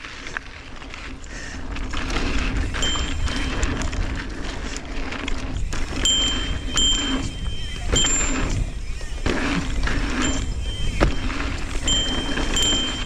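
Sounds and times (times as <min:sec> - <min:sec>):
bike clicks and rattles: 0:00.0 - 0:13.0
tyres rolling on dirt: 0:00.0 - 0:13.0
wind noise on microphone: 0:00.0 - 0:13.0.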